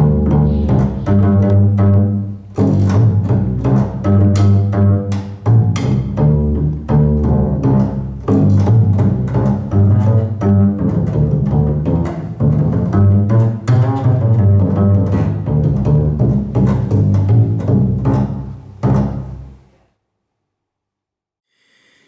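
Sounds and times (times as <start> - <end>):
double bass plucked: 0.0 - 19.7.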